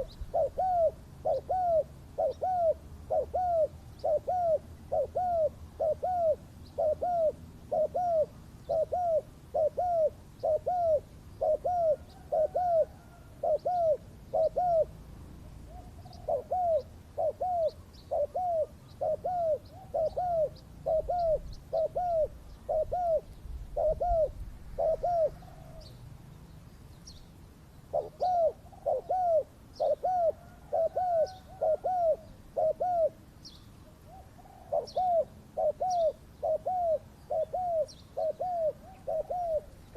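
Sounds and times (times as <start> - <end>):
dove cooing: 0.0 - 26.0, 27.9 - 33.2, 33.8 - 39.9.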